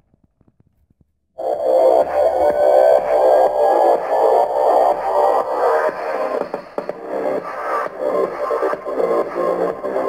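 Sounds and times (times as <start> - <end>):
music through tv speakers: 1.4 - 10.0.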